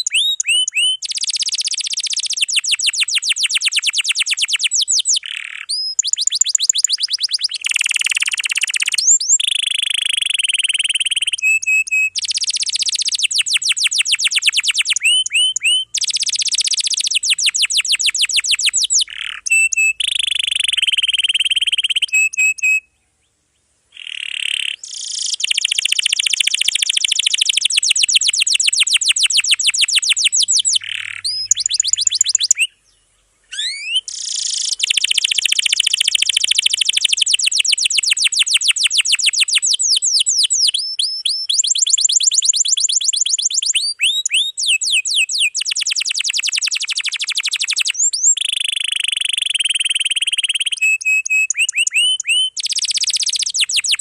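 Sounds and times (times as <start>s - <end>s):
canary singing: 0.0s - 23.0s, 24.0s - 54.0s.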